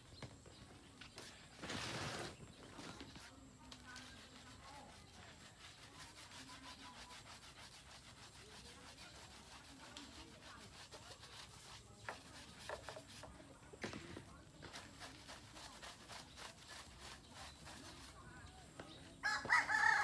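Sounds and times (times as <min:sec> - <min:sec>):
scrubbing a motorcycle: 0:00.4 - 0:20.0.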